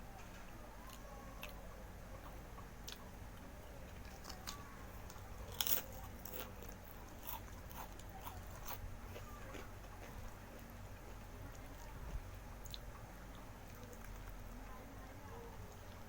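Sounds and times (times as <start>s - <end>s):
chewing crunchy food: 0.3s - 1.6s, 2.2s - 16.0s.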